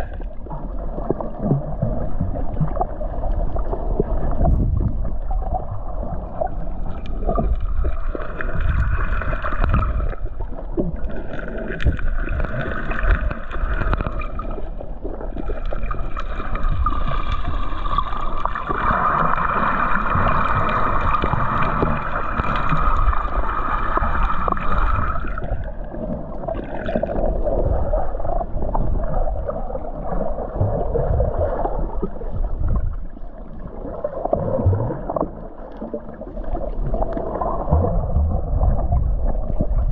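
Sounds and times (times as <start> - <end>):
underwater rushing water: 0.0 - 39.9
water gurgling: 0.0 - 39.9.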